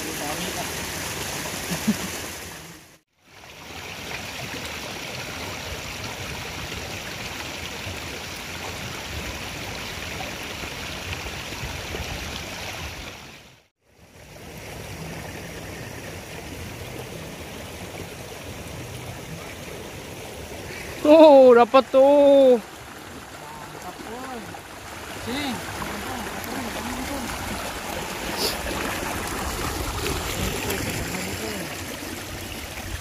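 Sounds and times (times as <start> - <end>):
water rushing in ditch: 0.0 - 33.0.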